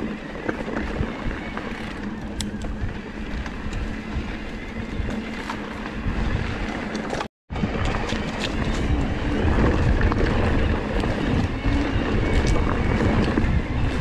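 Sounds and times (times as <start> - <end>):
bike clicks and rattles: 0.0 - 14.0
tyres on rocky trail: 0.0 - 14.0
wind on microphone: 0.0 - 14.0.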